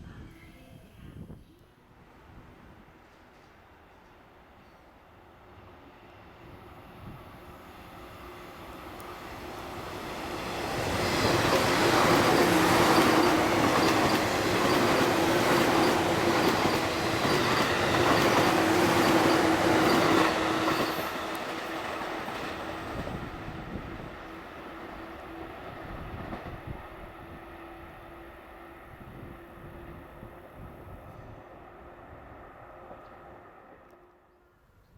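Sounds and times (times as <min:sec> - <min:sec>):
steady tone under train noise: 0:00.0 - 0:34.9
electric train passing: 0:01.7 - 0:34.6.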